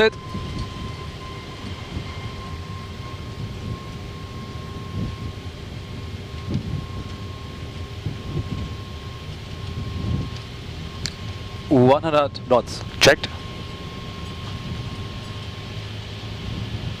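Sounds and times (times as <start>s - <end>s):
engines and wheels rumbling: 0.0s - 17.0s.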